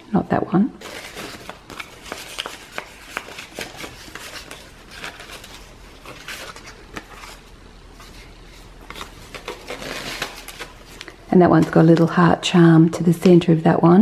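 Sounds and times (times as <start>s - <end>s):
paper tags rustling and clicking: 0.8s - 12.3s.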